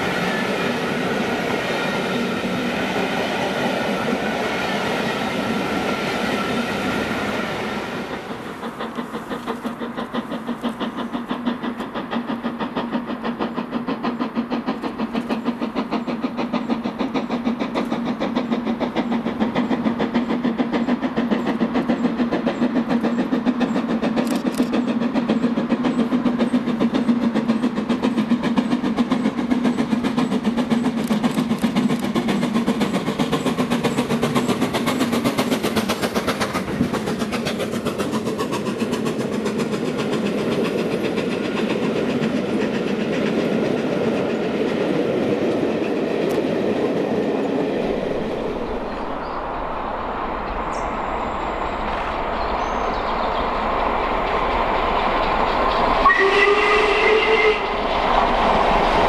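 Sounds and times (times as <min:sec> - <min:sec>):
steam locomotive exhaust beats: 0:00.0 - 0:59.0
steam train rumble: 0:00.0 - 0:59.0.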